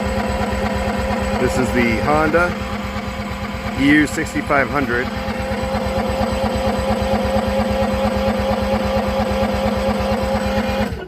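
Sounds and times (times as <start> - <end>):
generator engine cranking: 0.0 - 11.0.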